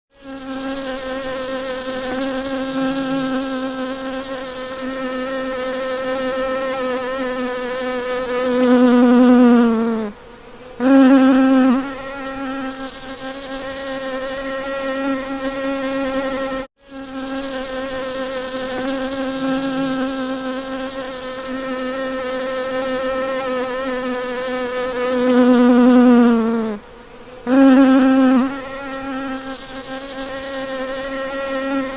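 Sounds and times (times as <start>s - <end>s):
bee buzzing: 0.1s - 31.9s.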